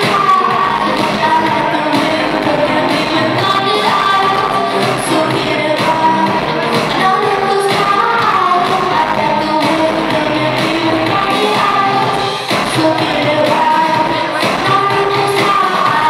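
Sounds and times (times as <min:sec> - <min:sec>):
live electronic pop music: 0:00.0 - 0:16.0
person singing: 0:00.0 - 0:16.0.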